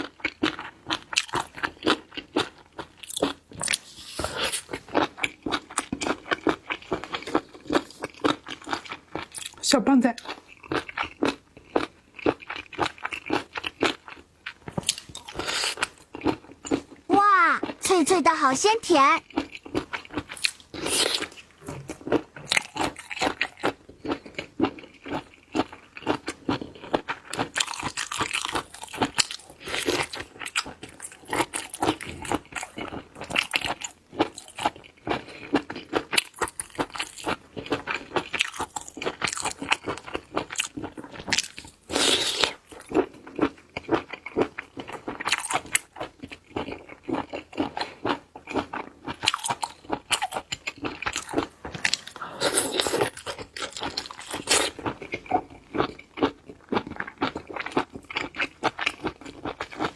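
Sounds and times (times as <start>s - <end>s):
chewing crunchy food: 0.0s - 17.8s, 18.9s - 59.9s.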